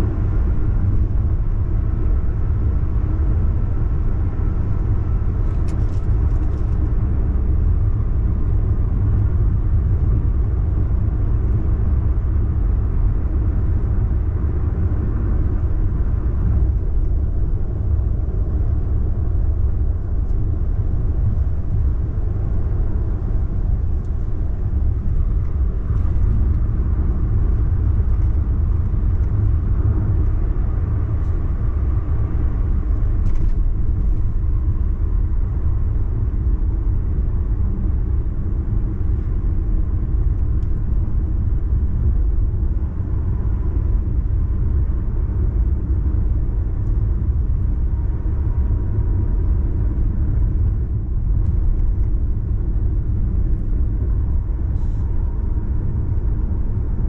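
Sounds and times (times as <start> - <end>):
tyre and road noise in car: 0.0 - 57.0.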